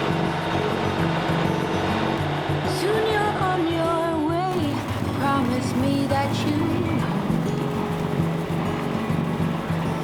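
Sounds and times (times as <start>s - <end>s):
background music: 0.0s - 10.0s
boat engine droning: 0.0s - 10.0s.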